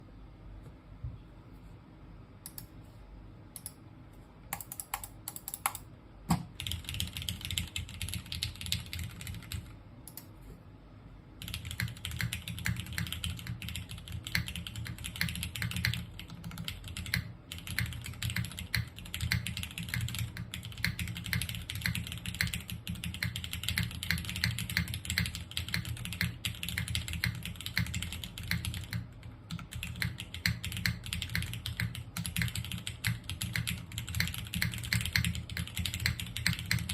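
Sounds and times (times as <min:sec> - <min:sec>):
mechanical keyboard typing: 0:04.5 - 0:10.3, 0:11.4 - 0:36.9.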